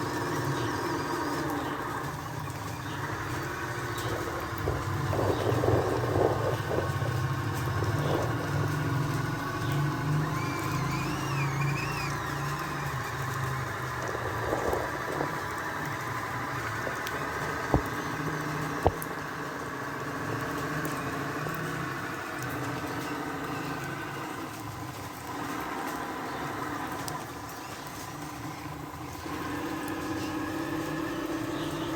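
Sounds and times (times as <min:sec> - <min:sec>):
toy truck motor humming: 0:00.0 - 0:31.9.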